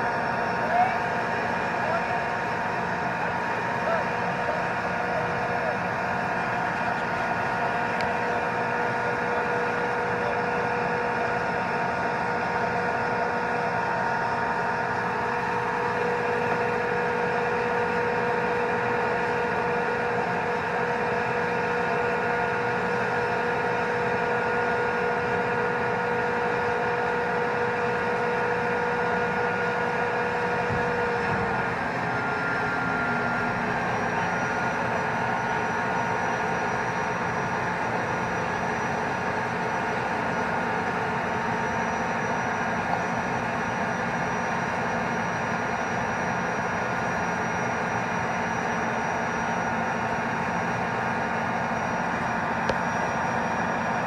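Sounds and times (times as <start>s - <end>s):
turbine engine whining: 0.0s - 54.0s.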